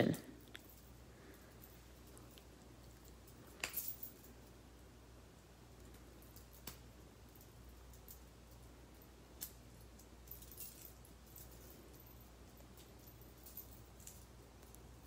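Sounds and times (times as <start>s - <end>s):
metal collar links clinking: 0.4s - 4.6s, 6.0s - 15.0s.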